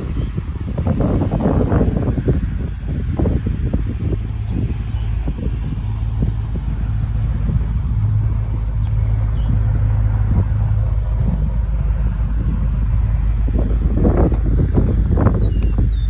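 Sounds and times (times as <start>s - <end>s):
steady low drone: 0.0s - 16.0s
wind buffeting microphone: 0.0s - 16.0s.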